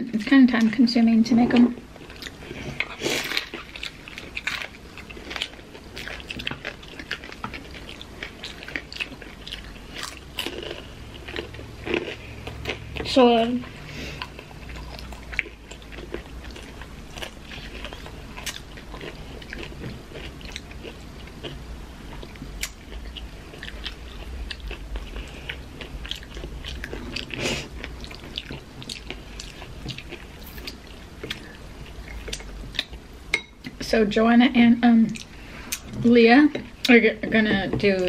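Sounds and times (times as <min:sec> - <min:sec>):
chewing and crunching fried food: 0:01.5 - 0:33.2.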